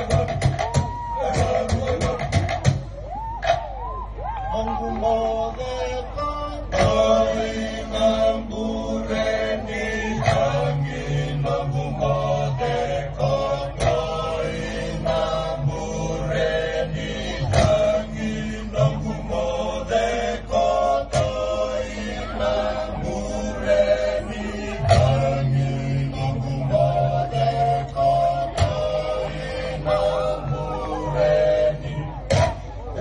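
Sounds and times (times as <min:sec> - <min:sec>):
group of voices chanting: 0:04.4 - 0:33.0.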